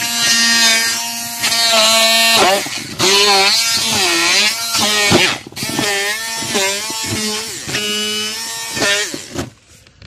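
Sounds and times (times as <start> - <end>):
immersion blender chopping apple: 0.0 - 9.6.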